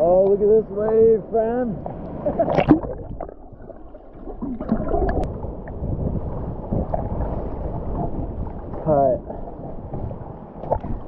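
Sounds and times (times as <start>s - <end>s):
sea water splashing: 0.0s - 11.0s.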